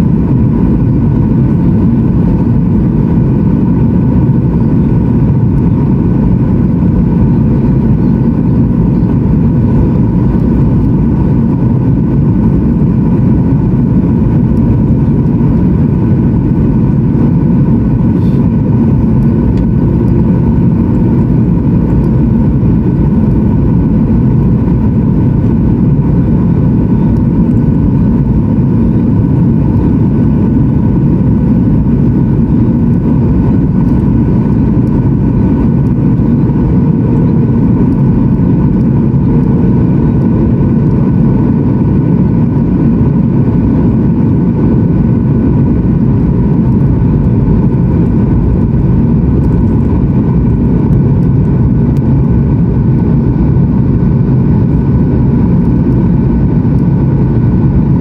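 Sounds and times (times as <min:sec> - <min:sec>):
airplane cabin airflow and engine: 0:00.0 - 0:58.0
steady whining tones: 0:00.0 - 0:58.0.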